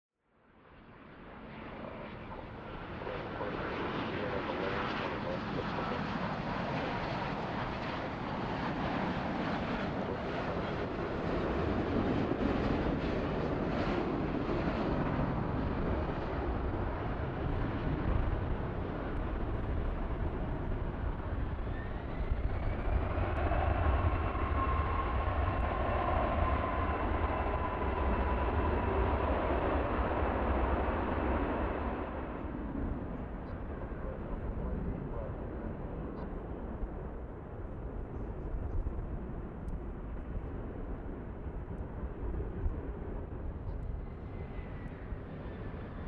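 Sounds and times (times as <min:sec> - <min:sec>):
jet airliner landing rush: 0:01.0 - 0:46.0.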